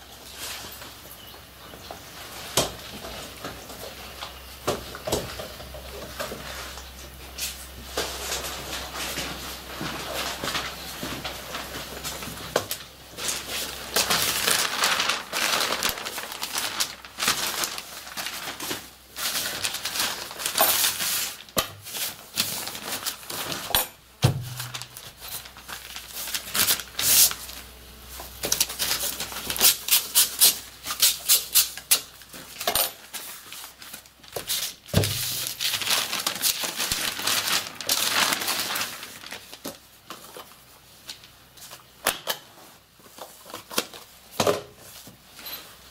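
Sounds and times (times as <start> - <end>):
paper rustling and crinkling: 2.1 - 45.9.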